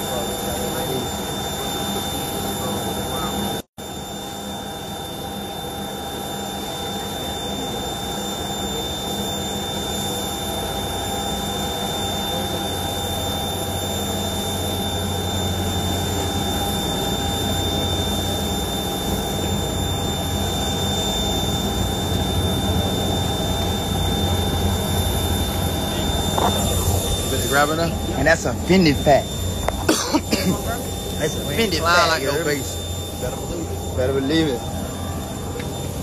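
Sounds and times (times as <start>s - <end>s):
high whine: 0.0s - 36.0s
jet engines roaring: 0.0s - 36.0s.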